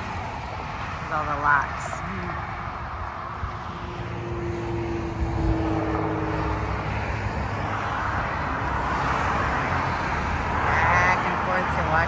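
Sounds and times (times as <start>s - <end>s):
highway traffic rushing: 0.0s - 12.0s.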